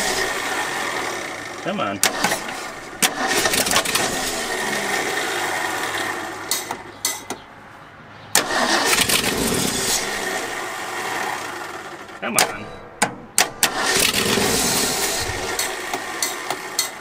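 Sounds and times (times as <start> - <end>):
engine cranking: 0.0 - 7.4, 8.4 - 12.7, 13.4 - 17.0
truck engine running and stalling: 0.0 - 7.5, 8.3 - 17.0.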